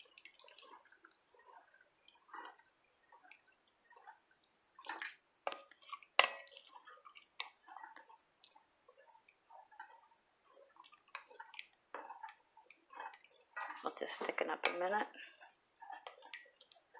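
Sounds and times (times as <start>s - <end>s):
liquid sloshing in a pan: 0.0s - 16.9s.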